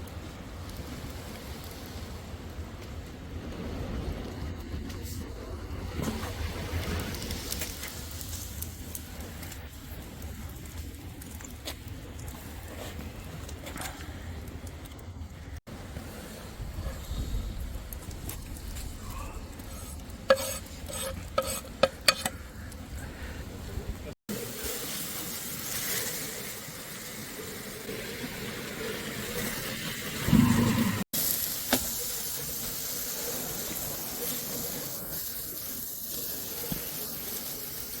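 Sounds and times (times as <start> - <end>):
food sizzling over fire: 0.0 - 38.0.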